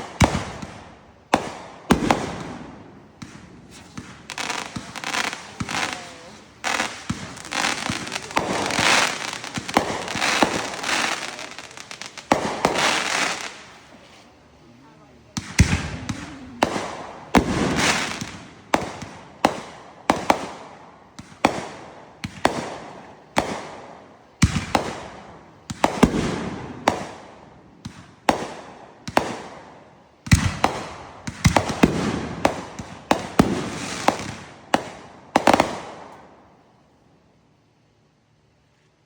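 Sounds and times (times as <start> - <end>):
fireworks bangs: 0.0 - 14.2, 15.2 - 36.4.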